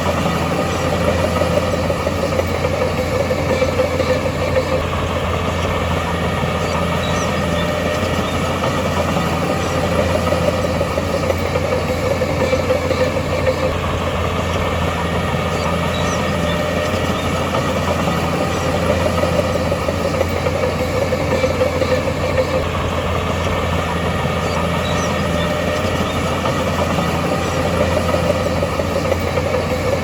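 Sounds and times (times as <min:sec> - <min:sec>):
heavy diesel engine rumbling: 0:00.0 - 0:30.0.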